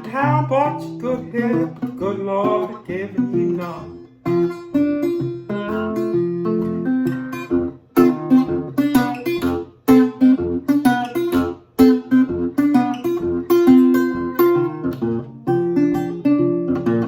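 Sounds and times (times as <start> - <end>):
acoustic guitar blues: 0.0 - 17.0.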